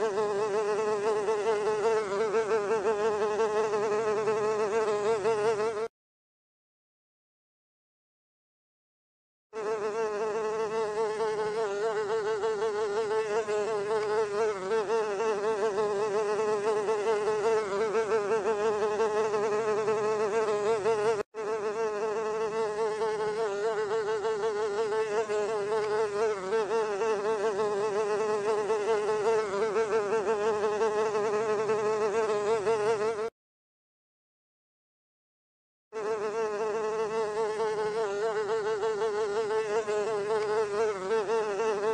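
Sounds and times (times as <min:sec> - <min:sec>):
housefly buzzing: 0:00.0 - 0:05.9, 0:09.6 - 0:33.4, 0:35.9 - 0:41.9.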